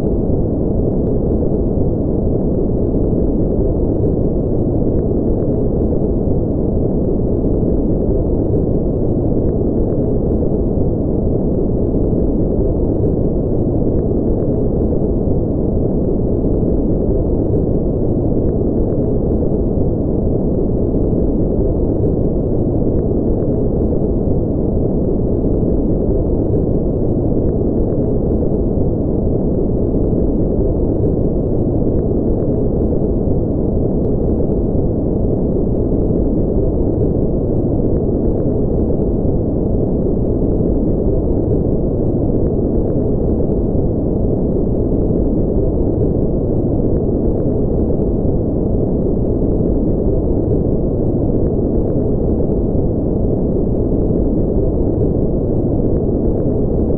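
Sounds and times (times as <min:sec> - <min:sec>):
deep steady rumble: 0:00.0 - 0:56.9.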